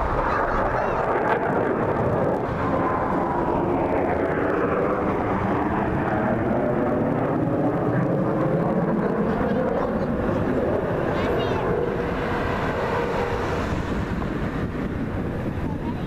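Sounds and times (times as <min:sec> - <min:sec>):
airplane engine flyby: 0:00.0 - 0:16.0.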